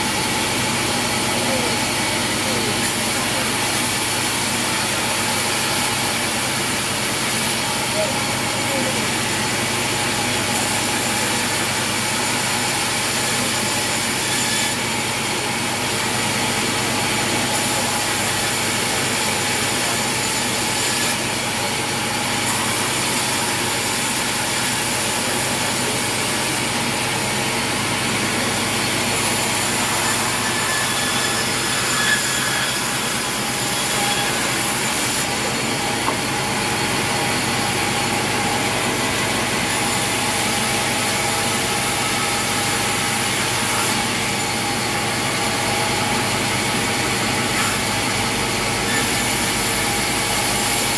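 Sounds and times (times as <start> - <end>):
band saw cutting timber: 0.0 - 50.9.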